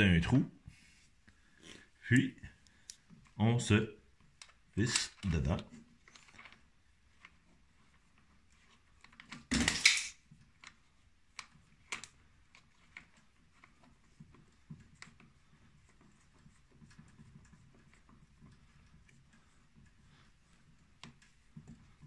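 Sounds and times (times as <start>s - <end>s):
small clicks and scraping: 4.1s - 22.0s.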